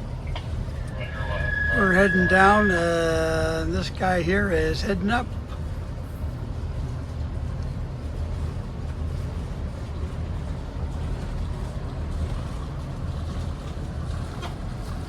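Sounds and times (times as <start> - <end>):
boat engine running at low speed: 0.0 - 15.0.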